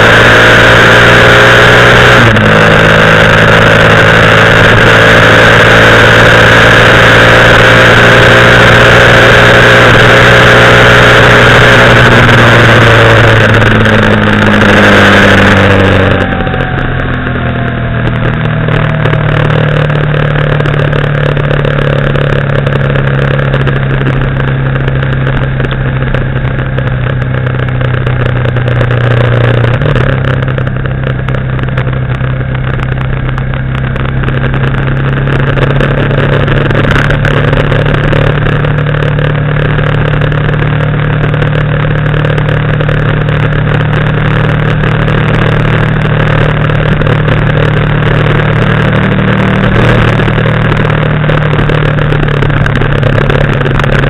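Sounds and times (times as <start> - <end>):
road and wind noise: 0.0 - 54.0
vehicle engine running: 0.0 - 54.0.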